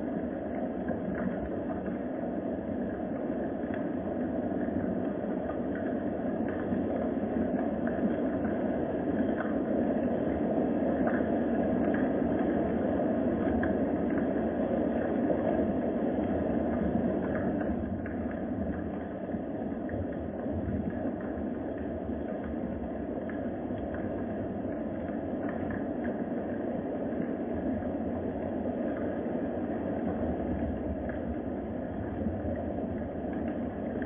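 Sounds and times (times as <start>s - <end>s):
low rumbling ambient noise: 0.0s - 34.0s
faint ticks: 0.1s - 34.0s.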